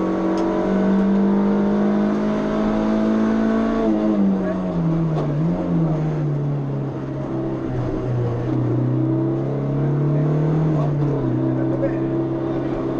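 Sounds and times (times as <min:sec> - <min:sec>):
car engine running inside car: 0:00.0 - 0:12.9.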